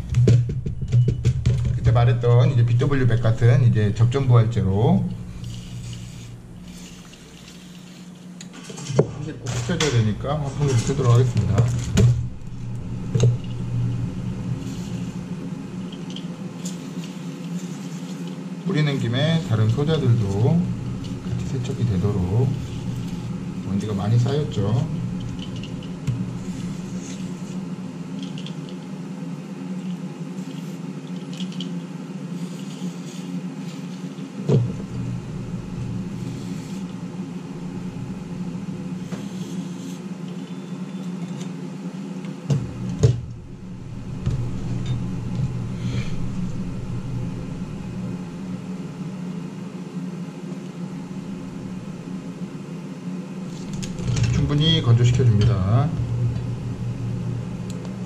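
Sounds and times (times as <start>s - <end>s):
extractor fan humming: 0.0s - 58.0s.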